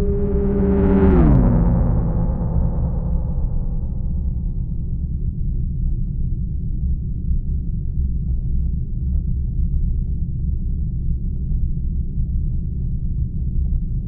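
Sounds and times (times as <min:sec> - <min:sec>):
deep spaceship drone rumble: 0:00.0 - 0:14.0.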